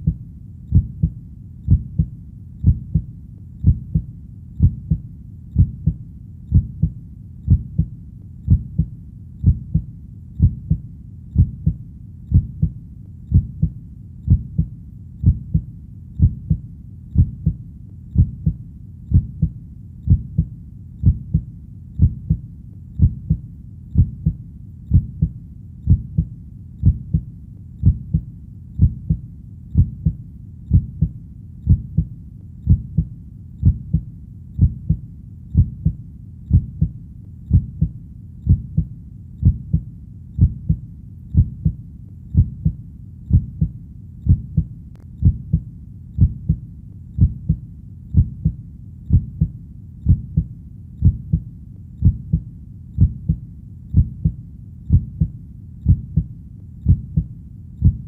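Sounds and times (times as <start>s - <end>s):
faint low rumble: 0.0s - 58.0s
heartbeat: 0.0s - 58.0s.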